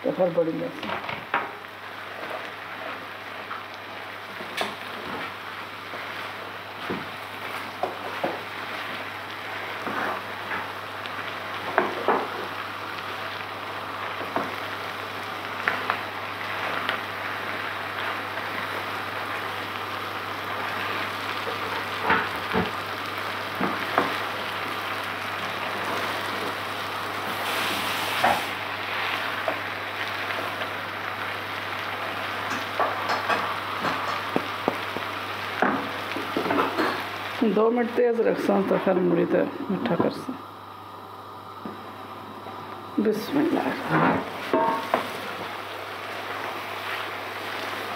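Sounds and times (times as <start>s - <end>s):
vegetables sizzling in a pan: 0.0s - 47.9s.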